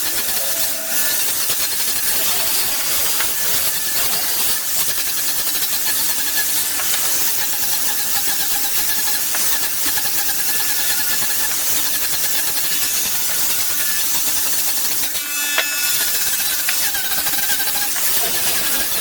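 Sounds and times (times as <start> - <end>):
power tool hissing: 0.0 - 19.0.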